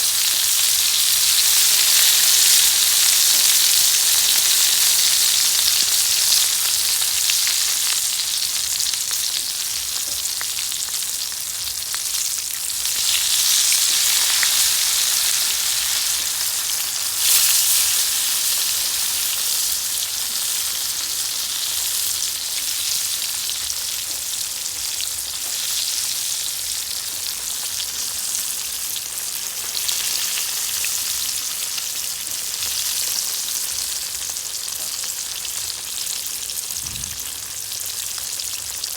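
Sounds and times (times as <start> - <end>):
crabs sizzling in hot oil: 0.0 - 38.9.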